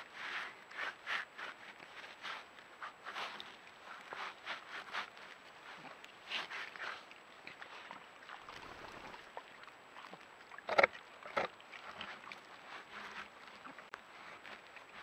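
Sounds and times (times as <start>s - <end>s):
faint rustling in grass: 0.0s - 9.4s, 11.8s - 15.0s.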